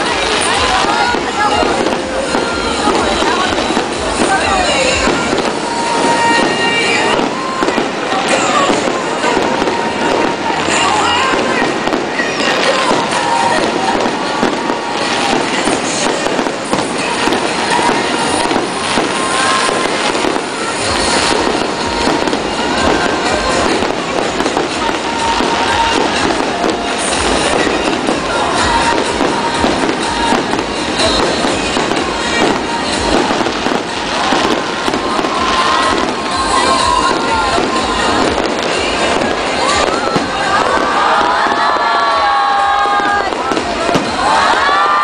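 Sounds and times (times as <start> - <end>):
fireworks crackling and popping: 0.0 - 45.0.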